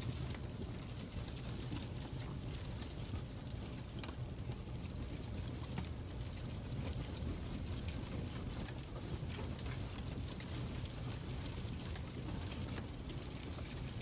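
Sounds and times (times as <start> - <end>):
fire crackling: 0.1 - 14.0.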